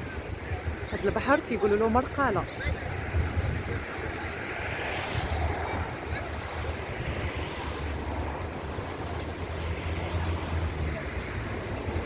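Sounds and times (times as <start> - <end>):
sea waves washing ashore: 0.0 - 12.0
wind buffeting microphone: 0.0 - 12.0.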